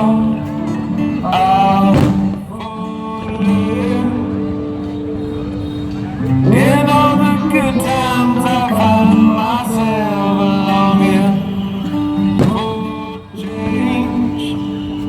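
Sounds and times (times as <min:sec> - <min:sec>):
person singing: 0:00.0 - 0:05.2, 0:06.3 - 0:15.0.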